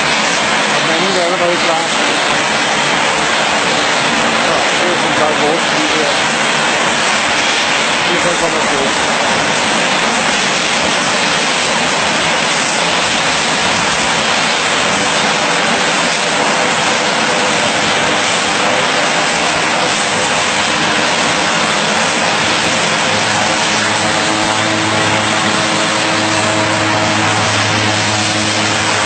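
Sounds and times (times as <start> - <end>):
propeller aircraft engines running: 0.0 - 29.0.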